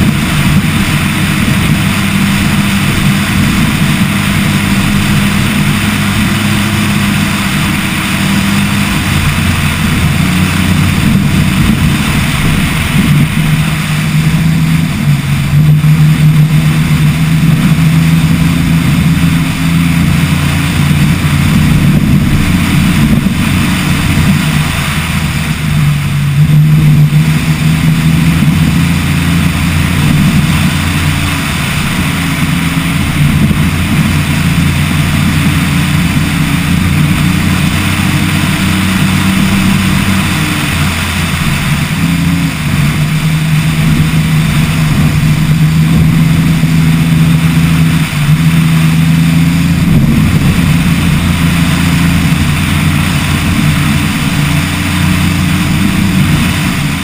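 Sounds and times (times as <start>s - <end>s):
truck engine running hard: 0.0s - 57.0s
wind and road noise: 0.0s - 57.0s.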